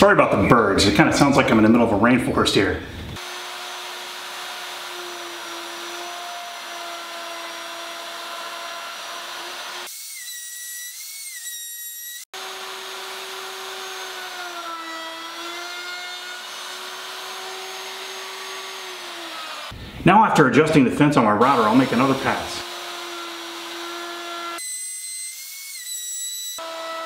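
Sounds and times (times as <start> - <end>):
router motor whining: 3.0 - 19.8, 21.4 - 27.0.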